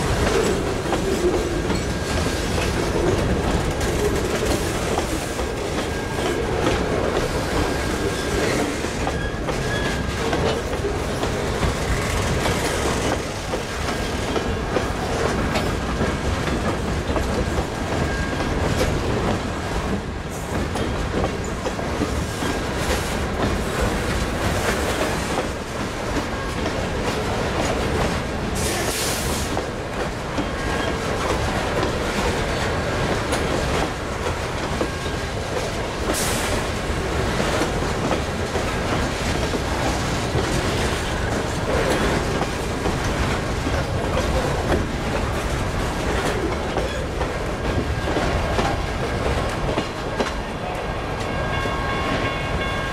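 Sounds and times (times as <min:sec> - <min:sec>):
freight train wheels clacking: 0:00.0 - 0:52.9.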